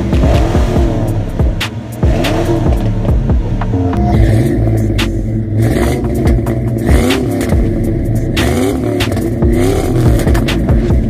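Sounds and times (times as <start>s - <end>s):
car engine revving: 0.0s - 11.0s
exhaust crackles: 0.0s - 11.0s.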